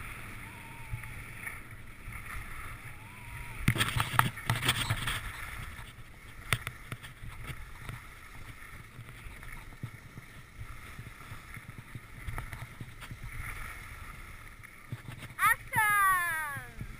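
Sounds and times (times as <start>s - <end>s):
wind rumble on microphone: 0.0s - 15.8s.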